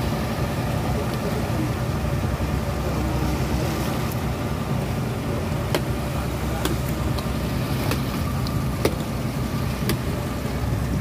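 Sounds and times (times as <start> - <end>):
boat engine droning: 0.0 - 11.0
water rushing along hull: 0.0 - 11.0.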